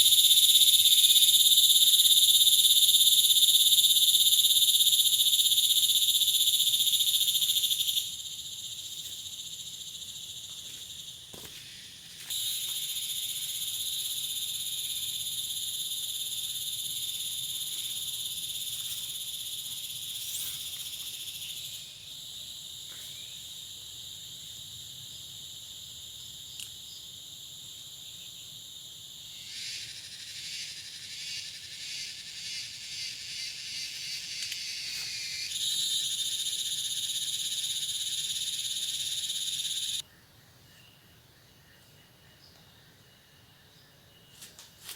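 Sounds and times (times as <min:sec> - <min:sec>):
night insects trilling: 0:00.0 - 0:40.1
rhythmic pulsing insect call: 0:00.0 - 0:44.9.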